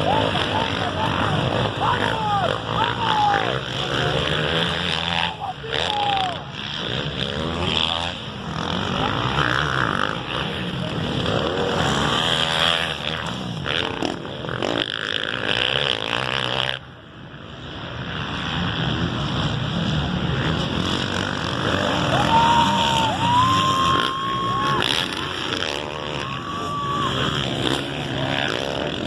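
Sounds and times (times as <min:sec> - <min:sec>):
motocross bikes revving past: 0:00.0 - 0:29.0.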